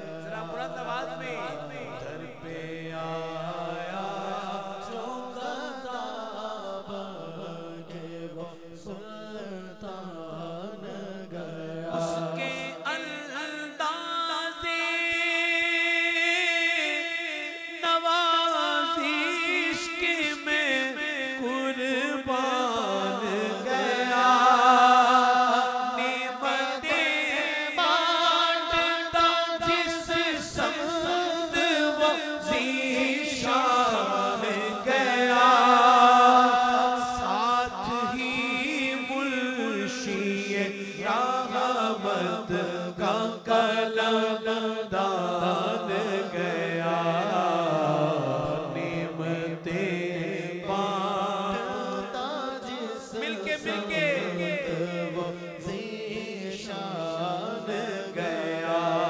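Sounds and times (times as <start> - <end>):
man singing into a microphone: 0.0 - 59.0.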